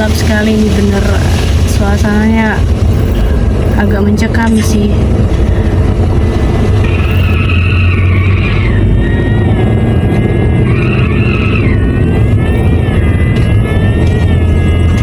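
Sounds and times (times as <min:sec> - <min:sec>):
road and engine rumble: 0:00.0 - 0:15.0
high wavering tone: 0:02.4 - 0:15.0.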